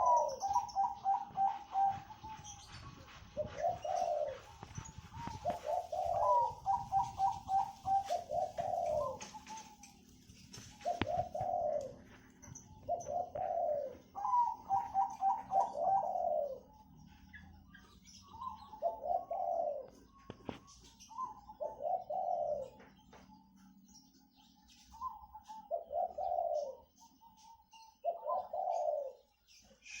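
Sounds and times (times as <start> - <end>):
doves cooing: 0.0 - 30.0
small birds chirping: 0.0 - 30.0.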